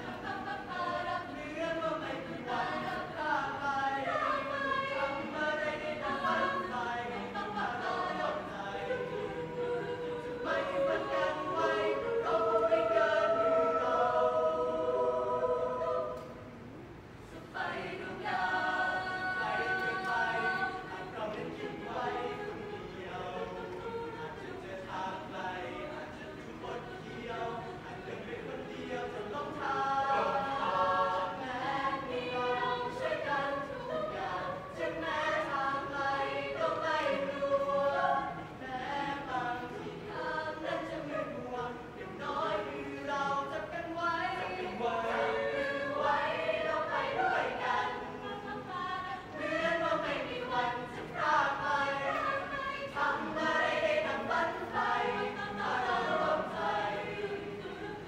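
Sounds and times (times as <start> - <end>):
choir singing in parts: 0.0 - 58.0.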